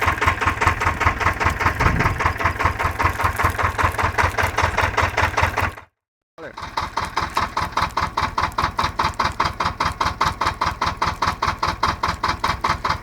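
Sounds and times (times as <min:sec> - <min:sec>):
tractor engine knocking: 0:00.0 - 0:13.0.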